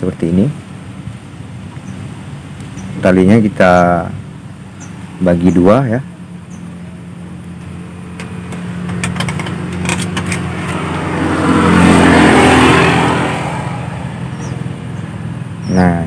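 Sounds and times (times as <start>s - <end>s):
motor vehicle passing by: 0.4s - 16.0s.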